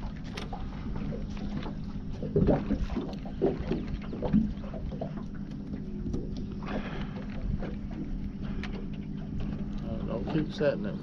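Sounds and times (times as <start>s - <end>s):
steady low hum: 0.0s - 11.0s
water lapping against boat: 0.0s - 11.0s.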